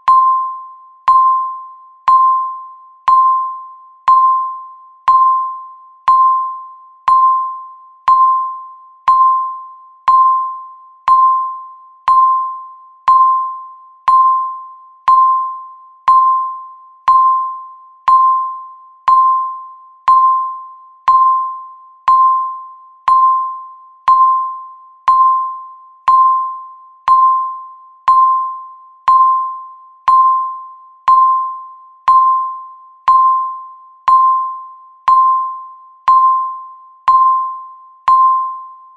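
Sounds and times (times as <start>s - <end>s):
countdown timer beeping: 0.0s - 38.8s.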